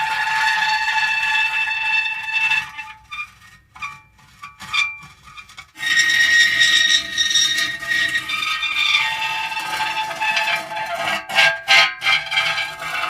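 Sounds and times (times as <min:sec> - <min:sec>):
metal creaking: 0:00.0 - 0:13.0.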